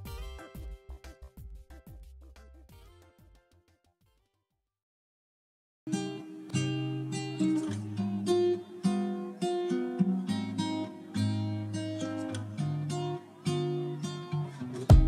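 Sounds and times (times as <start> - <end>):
acoustic guitar plucked tune: 0.0 - 3.5, 5.9 - 15.0.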